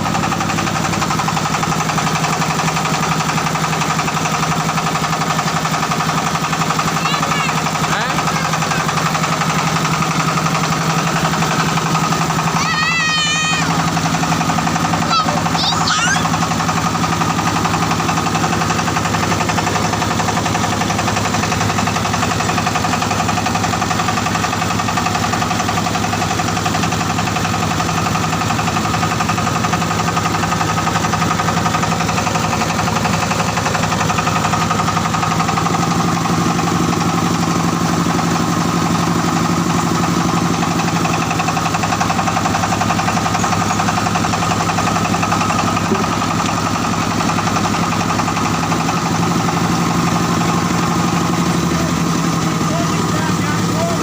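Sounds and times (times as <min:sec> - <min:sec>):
diesel engine running steadily: 0:00.0 - 0:54.0.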